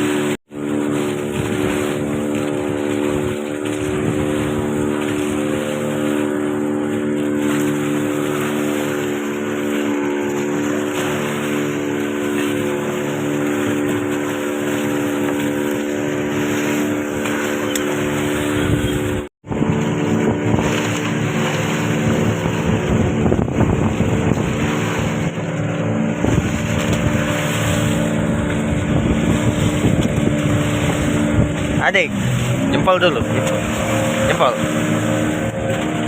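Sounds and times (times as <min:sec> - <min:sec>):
boat motor running: 0:00.0 - 0:36.0
water noise: 0:00.0 - 0:36.0
wind: 0:00.0 - 0:36.0.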